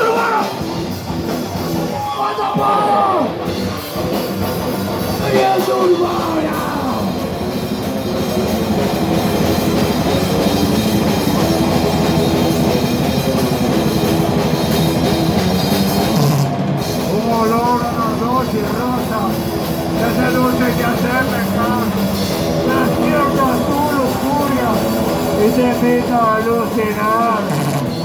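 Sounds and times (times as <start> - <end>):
drum kit: 0.0 - 28.0
heavy metal band playing live: 0.0 - 28.0.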